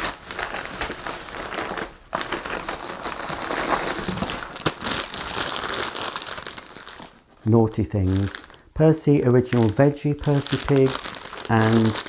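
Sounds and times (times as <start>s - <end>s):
plastic bag rustling: 0.0s - 8.6s, 9.4s - 12.0s
plastic sweet packets crinkling: 0.0s - 12.0s.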